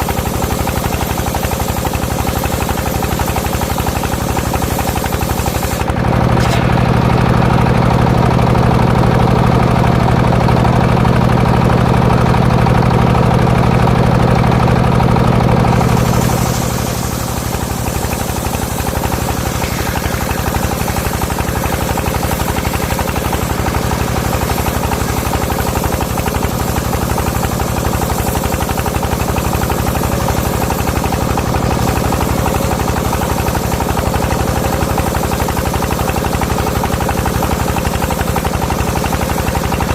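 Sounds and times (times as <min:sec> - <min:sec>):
engine running with knocking beat: 0:00.0 - 0:39.9.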